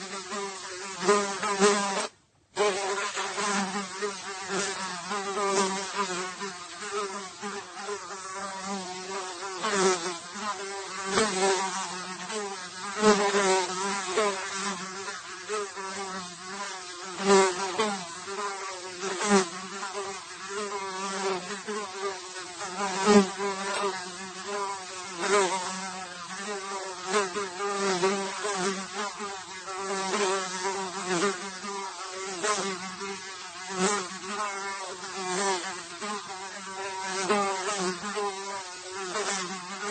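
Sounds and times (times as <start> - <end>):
housefly buzzing: 0.0 - 39.9.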